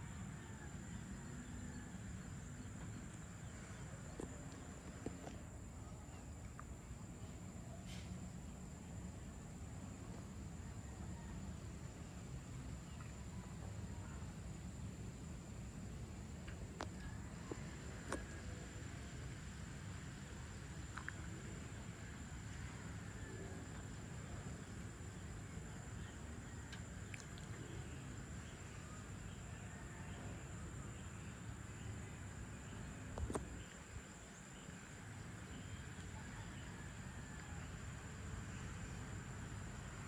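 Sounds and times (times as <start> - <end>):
faint chirps: 0.0 - 15.1, 20.2 - 40.0
crickets and insects chorus: 0.0 - 40.0.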